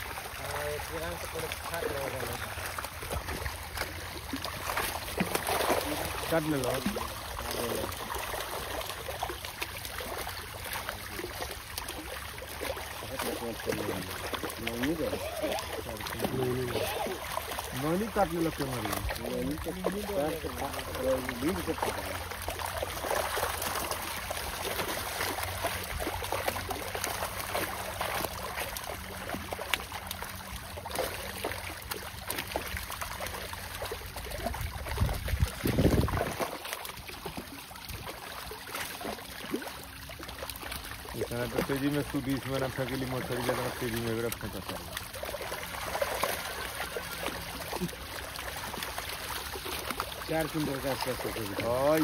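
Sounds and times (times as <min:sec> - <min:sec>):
water trickling and splashing: 0:00.0 - 0:52.0.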